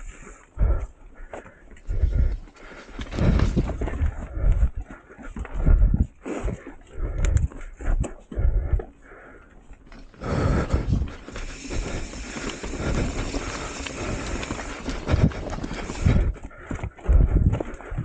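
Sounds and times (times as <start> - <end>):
bike tyres rolling on dirt: 0.0 - 18.0.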